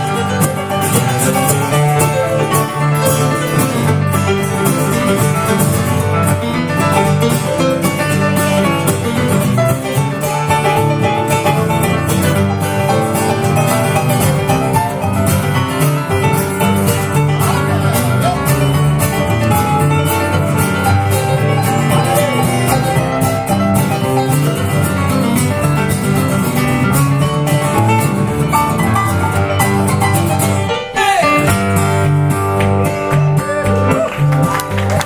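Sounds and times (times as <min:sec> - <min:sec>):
plucked guitar: 0:00.0 - 0:35.0
steady bass line: 0:00.0 - 0:35.0.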